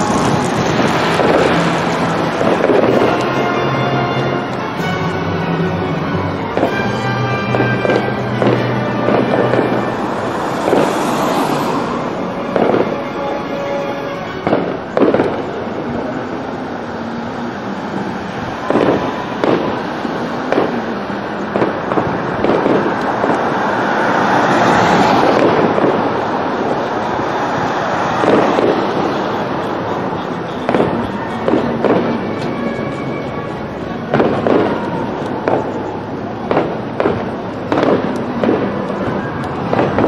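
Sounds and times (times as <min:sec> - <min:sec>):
fireworks bursting with sharp bangs: 0:00.0 - 0:40.0
fireworks hiss and crackle: 0:00.0 - 0:40.0.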